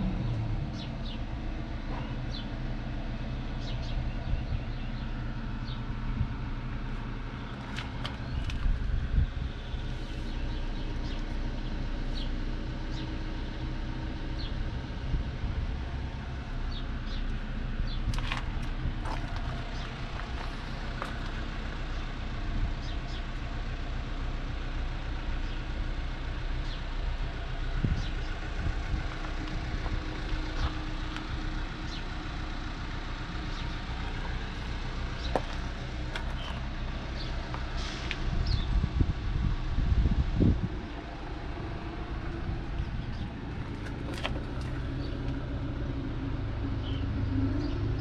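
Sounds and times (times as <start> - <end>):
diesel engine idling: 0.0 - 48.0.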